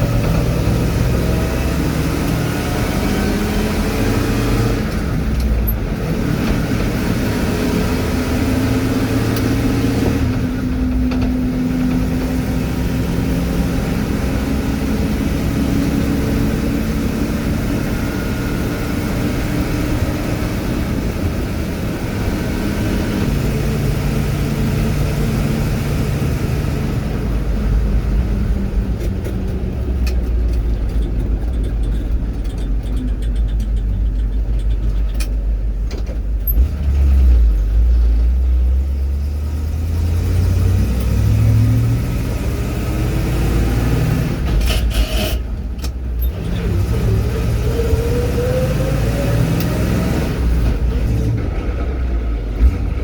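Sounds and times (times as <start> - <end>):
vehicle engine accelerating: 0.0 - 35.2, 36.4 - 53.0.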